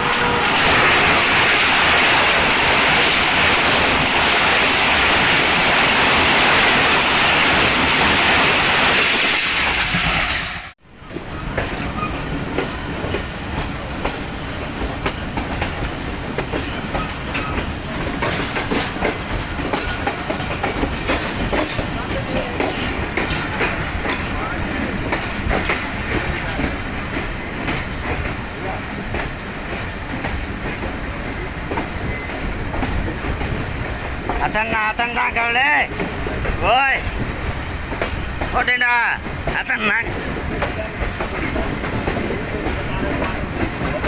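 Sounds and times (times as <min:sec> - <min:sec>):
train rushing on rails: 0:00.0 - 0:44.0
wheel clatter over rail joints: 0:00.0 - 0:44.0.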